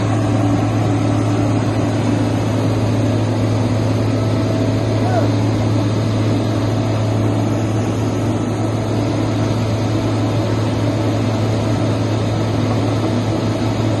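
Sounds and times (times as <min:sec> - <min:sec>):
large engine droning: 0:00.0 - 0:14.0.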